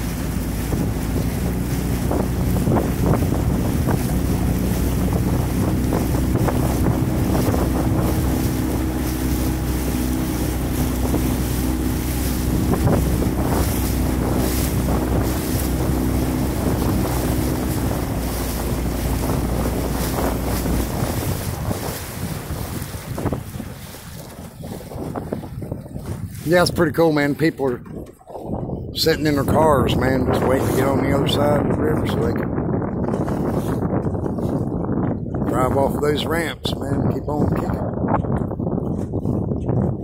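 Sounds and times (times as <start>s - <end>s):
motorboat engine droning: 0.0s - 40.0s
water washing past hull: 0.0s - 40.0s
wind buffeting microphone: 0.0s - 40.0s.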